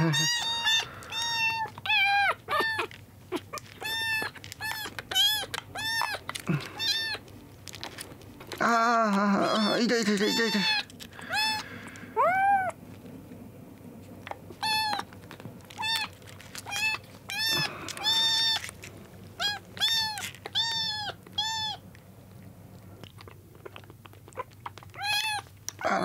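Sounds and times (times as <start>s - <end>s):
kittens mewing: 0.0s - 12.8s, 14.3s - 15.1s, 15.7s - 21.9s, 23.6s - 26.0s.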